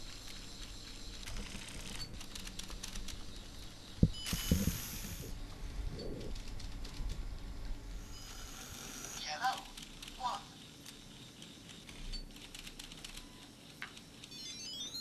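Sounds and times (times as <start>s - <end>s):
gears ticking and whirring: 0.0s - 15.0s.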